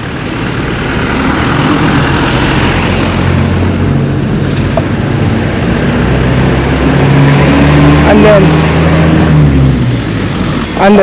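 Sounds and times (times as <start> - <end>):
road noise: 0.0 - 11.0
vehicle engine humming: 0.0 - 11.0
wind noise: 0.0 - 11.0.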